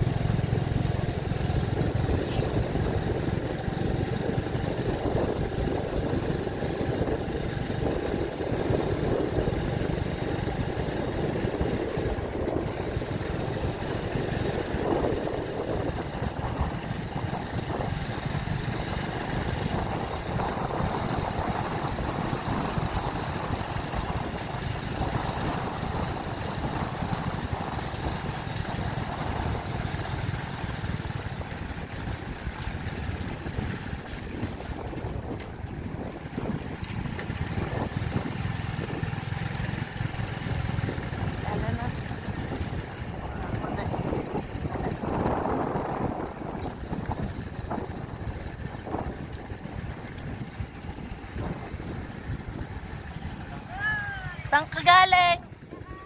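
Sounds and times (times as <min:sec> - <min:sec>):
small motorcycle engine running: 0:00.0 - 0:56.0
tyres on gravel road: 0:00.0 - 0:56.0.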